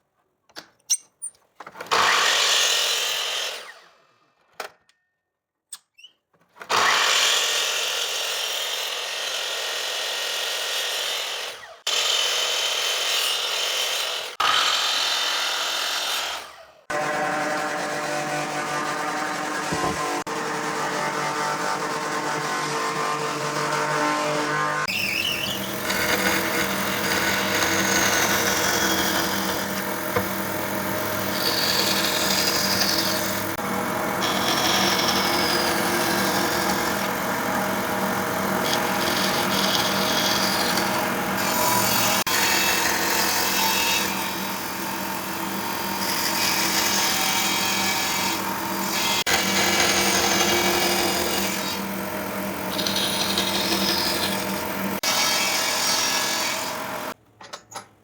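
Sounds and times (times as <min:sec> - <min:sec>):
electric power tool on wood: 0:01.9 - 0:04.2, 0:06.7 - 0:57.2.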